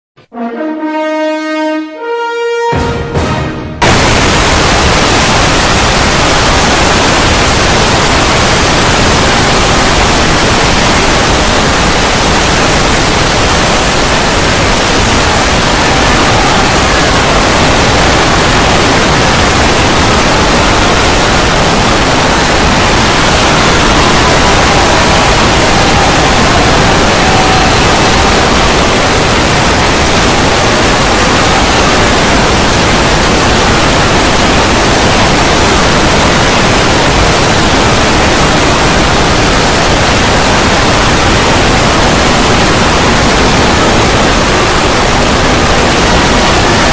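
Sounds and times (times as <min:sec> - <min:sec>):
loud static noise: 0:02.7 - 0:46.9.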